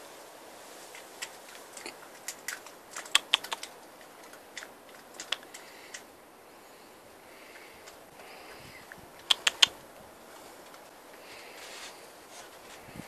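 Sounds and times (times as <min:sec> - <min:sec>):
fox chewing food: 0:00.9 - 0:13.0.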